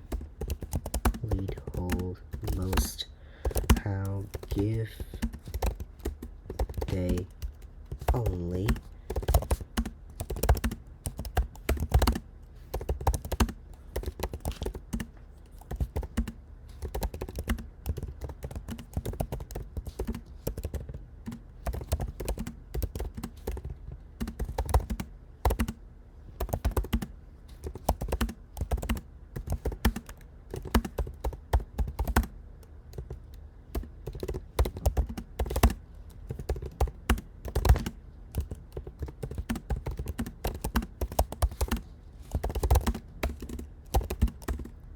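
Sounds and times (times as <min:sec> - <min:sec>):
fast typing on laptop keyboard: 0:00.0 - 0:44.9.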